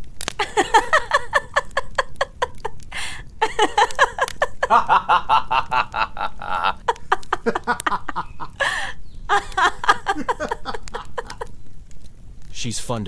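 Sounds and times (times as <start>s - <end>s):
woman laughing hard: 0.4s - 11.6s
gasping breath: 0.6s - 12.4s.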